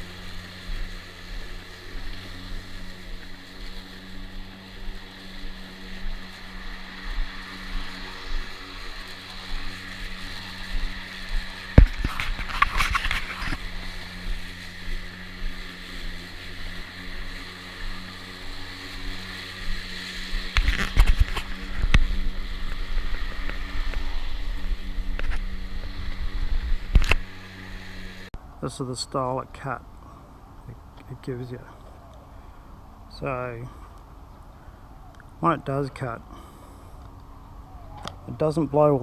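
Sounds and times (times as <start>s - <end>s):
electric lawn mower running: 0.0s - 28.6s, 29.8s - 39.0s.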